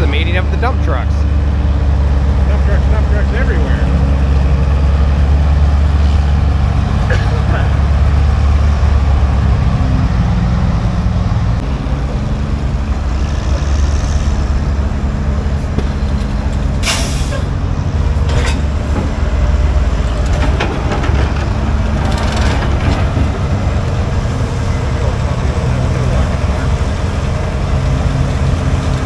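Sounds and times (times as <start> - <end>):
heavy engine droning: 0.0 - 29.0.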